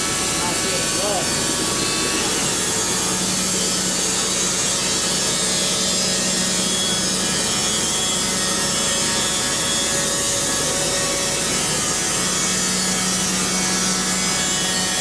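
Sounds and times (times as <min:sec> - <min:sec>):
saw blade cutting wood: 0:00.0 - 0:15.0.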